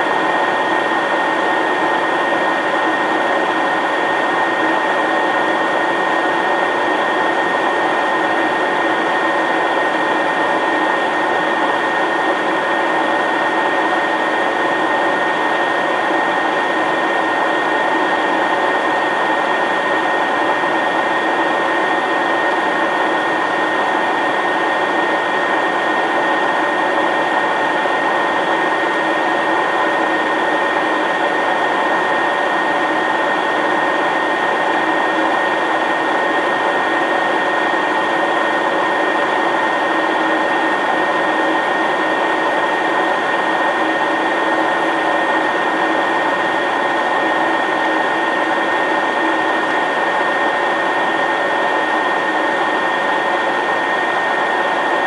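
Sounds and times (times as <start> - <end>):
jet cockpit rushing hum: 0.0 - 55.0.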